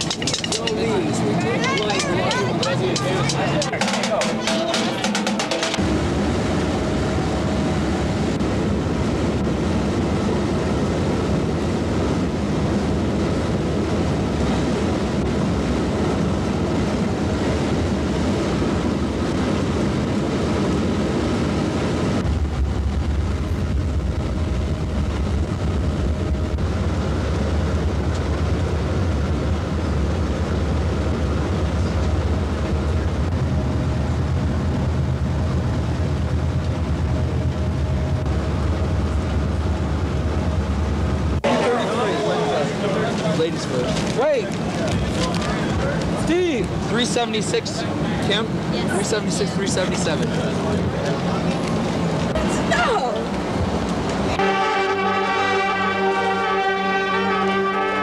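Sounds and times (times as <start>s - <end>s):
coach engine and road rumble: 0.0s - 58.0s.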